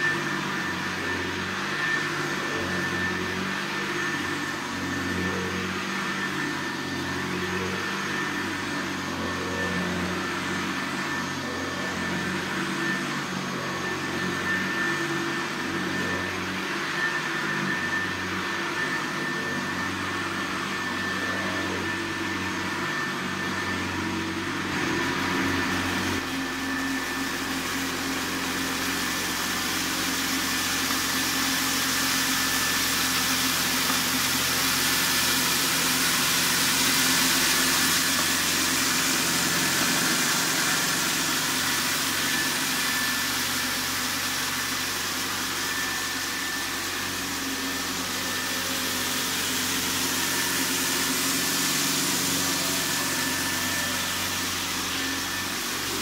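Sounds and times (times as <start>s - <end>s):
vacuum cleaner running on carpet: 0.0s - 56.0s.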